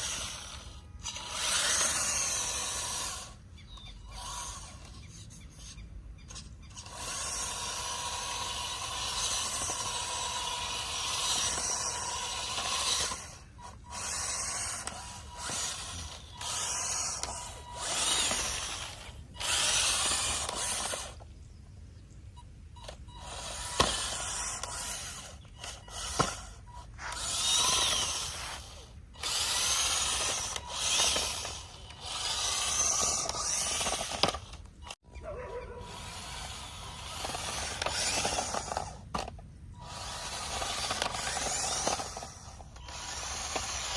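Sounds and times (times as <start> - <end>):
small gear motor whirring: 0.0 - 21.6, 22.3 - 43.9.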